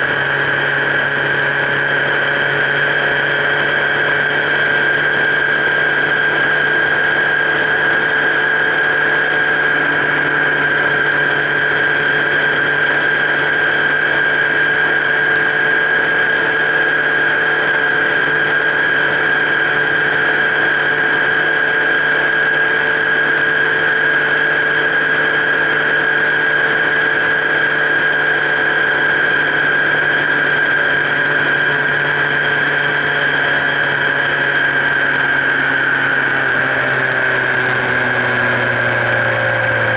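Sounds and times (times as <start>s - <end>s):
steady high whine: 0.0s - 39.9s
vehicle engine running: 0.0s - 39.9s.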